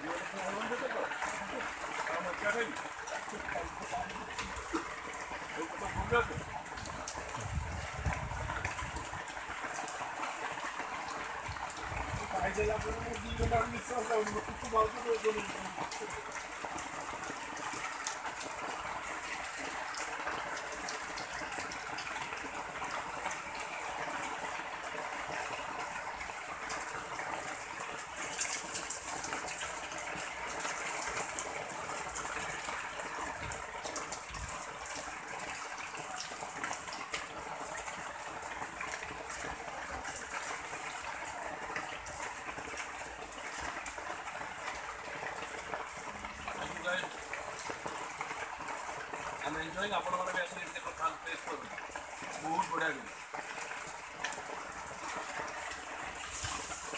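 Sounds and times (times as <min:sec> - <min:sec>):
rain falling on umbrellas: 0:00.0 - 0:56.9.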